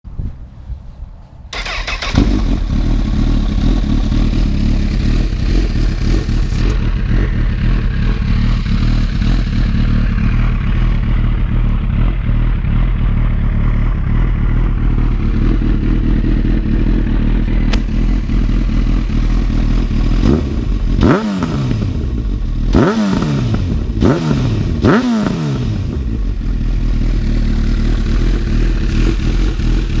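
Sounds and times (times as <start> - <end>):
motorcycle engine idling and revving: 1.5 - 30.0.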